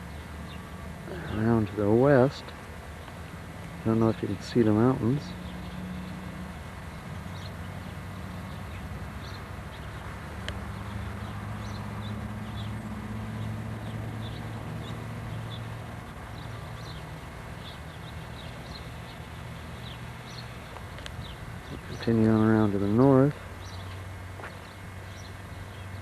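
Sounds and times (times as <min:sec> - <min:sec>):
low engine drone: 0:00.0 - 0:26.0
small birds chirping: 0:00.0 - 0:26.0.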